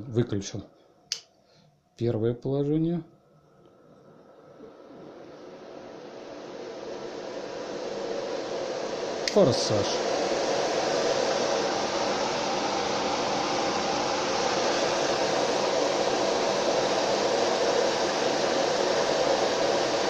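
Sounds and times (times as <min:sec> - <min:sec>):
blower fans rushing air: 0:03.8 - 0:20.0.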